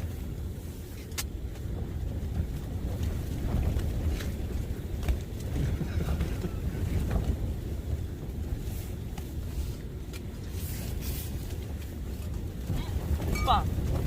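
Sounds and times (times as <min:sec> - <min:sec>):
strong gusting wind: 0:00.0 - 0:14.0.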